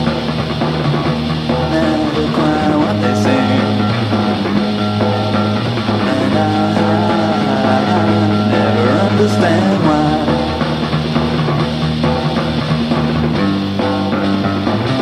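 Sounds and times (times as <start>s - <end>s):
bass guitar: 0.0s - 15.0s
electric guitar: 0.0s - 15.0s.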